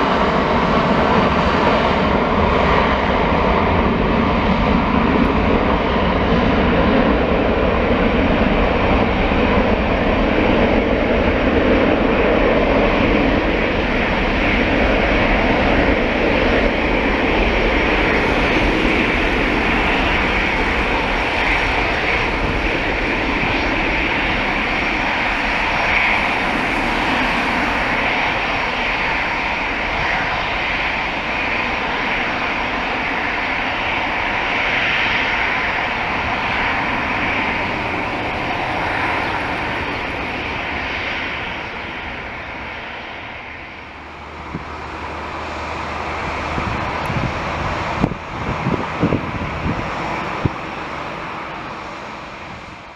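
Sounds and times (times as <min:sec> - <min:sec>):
jet engines at takeoff thrust: 0:00.0 - 0:52.9.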